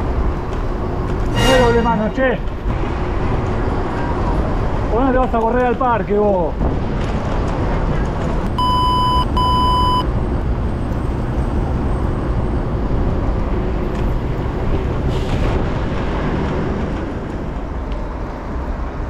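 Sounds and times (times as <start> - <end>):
bicycle road rumble: 0.0 - 19.0
wind: 0.0 - 19.0.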